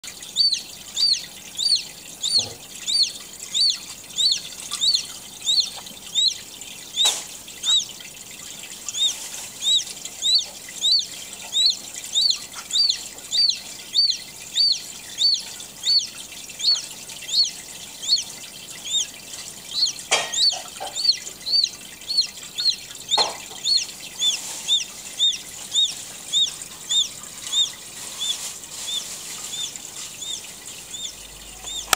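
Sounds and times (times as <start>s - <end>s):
chick peeping: 0.0s - 31.9s.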